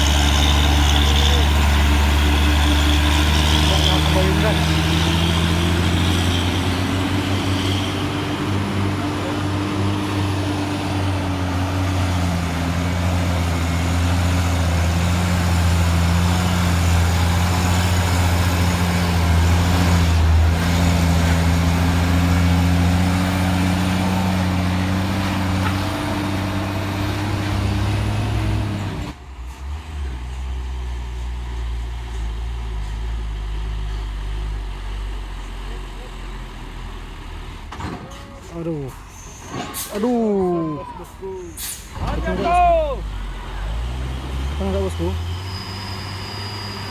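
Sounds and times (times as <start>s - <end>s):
truck diesel engines droning: 0.0s - 46.9s.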